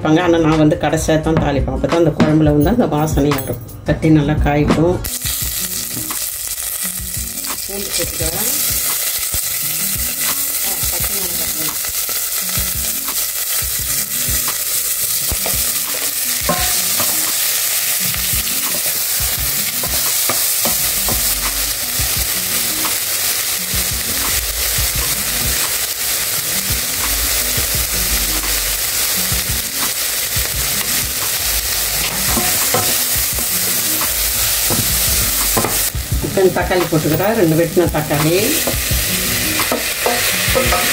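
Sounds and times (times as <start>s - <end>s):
onions sizzling in oil: 5.1s - 40.9s.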